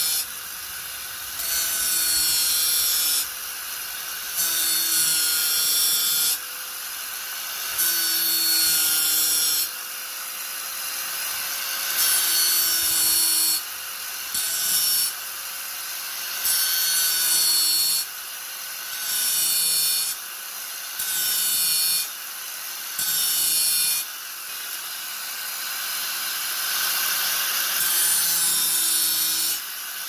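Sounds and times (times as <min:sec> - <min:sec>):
angle grinder cutting: 0:00.0 - 0:30.0.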